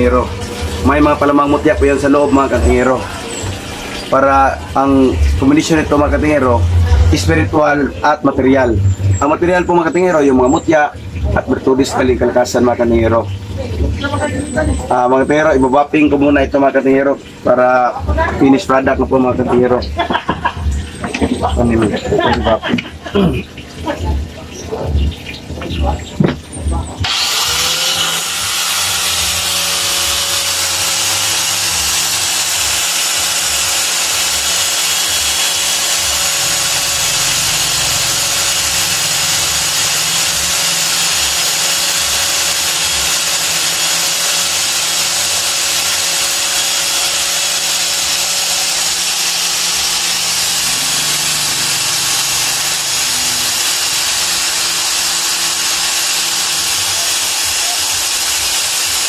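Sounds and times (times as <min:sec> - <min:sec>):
medal buffed on spinning wheel: 0:00.0 - 0:18.6, 0:26.2 - 0:59.0
angle grinder running: 0:00.0 - 0:59.0.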